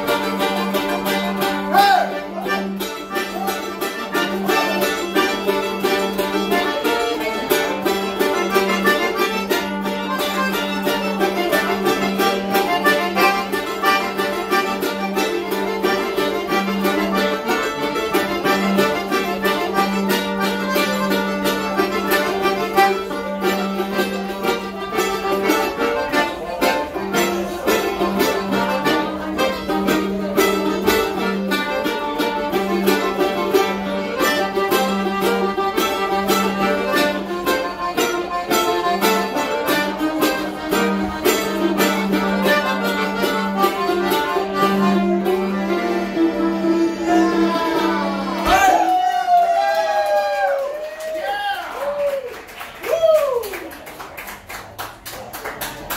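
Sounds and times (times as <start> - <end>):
accordion chords: 0.0 - 48.9
mandolin picking: 0.0 - 49.0.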